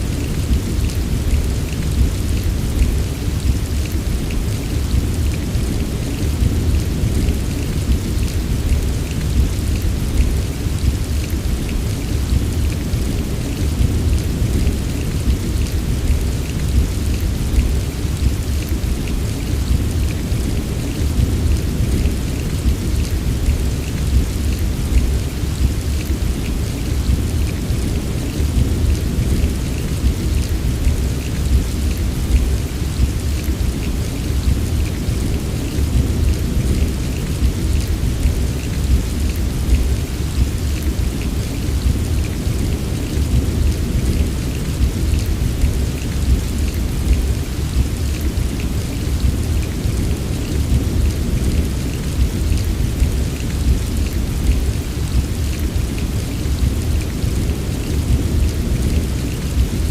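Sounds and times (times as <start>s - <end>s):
heavy rain: 0.0s - 59.9s
raindrops ticking: 0.0s - 59.9s.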